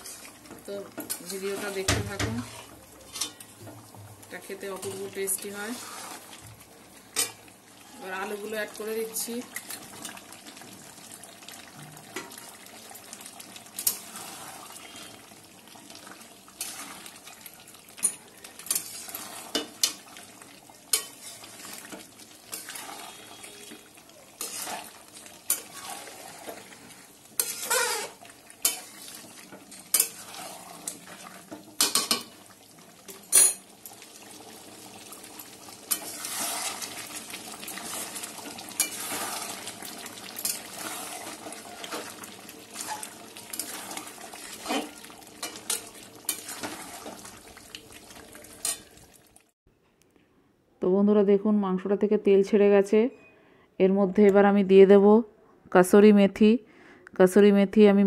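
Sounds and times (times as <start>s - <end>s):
sizzle of frying: 0.0s - 49.6s.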